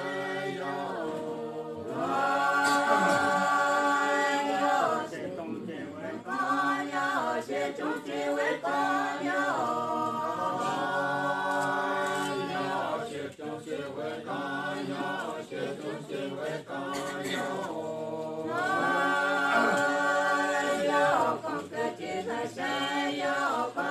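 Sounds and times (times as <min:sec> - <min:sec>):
a cappella singing voices: 0:00.0 - 0:23.9.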